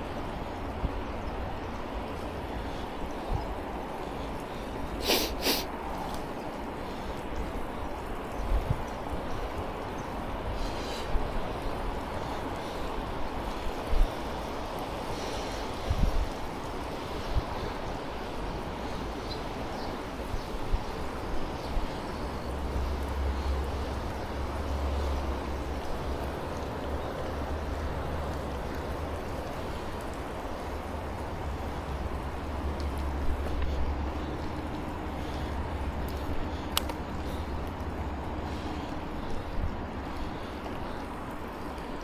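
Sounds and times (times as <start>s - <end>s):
wind buffeting microphone: 0.0s - 5.0s, 5.7s - 42.0s
bicycle riding hiss: 0.0s - 42.0s.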